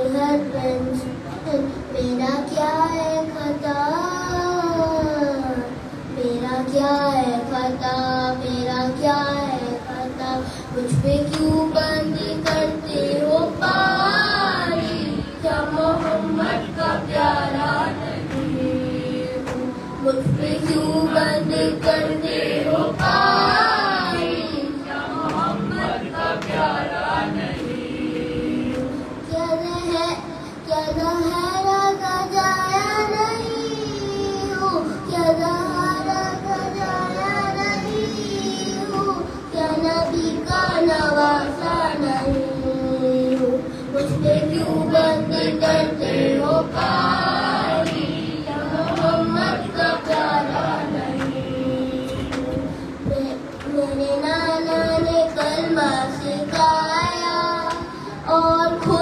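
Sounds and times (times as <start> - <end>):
boy chanting a lament: 0.0 - 59.0.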